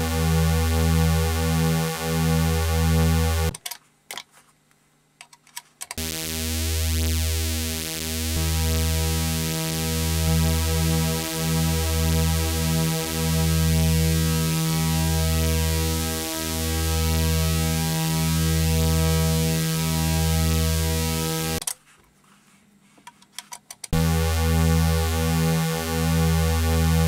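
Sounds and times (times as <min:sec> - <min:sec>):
buzzy pulsing synth drone: 0:00.0 - 0:03.6, 0:06.0 - 0:21.6, 0:24.0 - 0:27.0.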